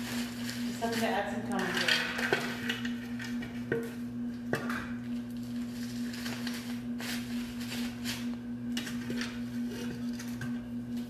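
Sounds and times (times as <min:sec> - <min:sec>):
cookies crunching in a bag: 0:00.0 - 0:03.4, 0:05.1 - 0:11.0
steady low hum: 0:00.0 - 0:11.0.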